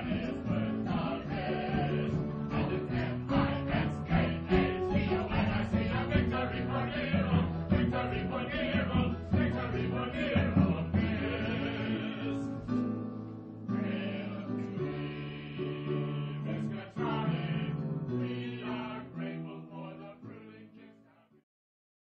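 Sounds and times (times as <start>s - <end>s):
choir singing held notes: 0.0s - 12.9s, 13.6s - 21.3s.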